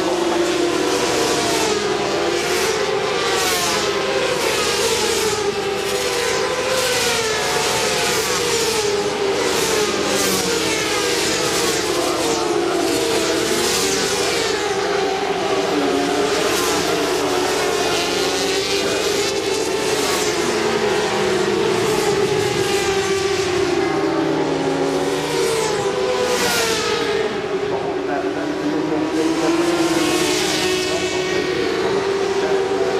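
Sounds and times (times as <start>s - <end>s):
racing motorcycles at high revs: 0.0s - 32.9s.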